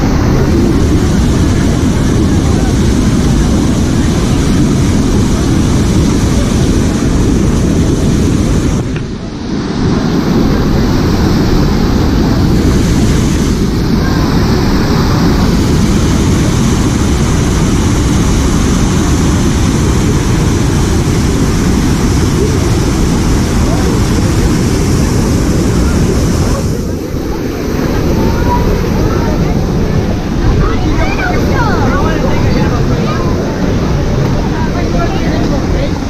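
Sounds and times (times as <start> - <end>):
churning white water: 0.0 - 36.0
wind buffeting microphone: 0.0 - 36.0.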